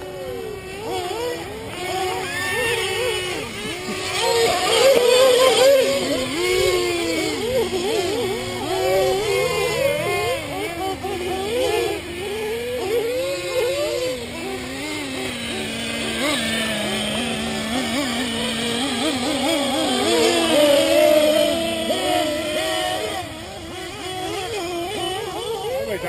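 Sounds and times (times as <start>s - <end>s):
rc car engines racing: 0.0s - 26.0s.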